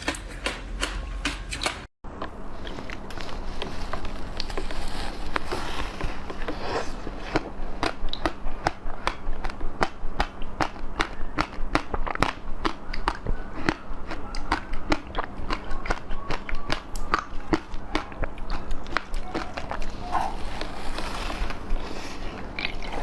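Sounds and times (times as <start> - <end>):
food crunching while chewed: 2.2 - 23.0.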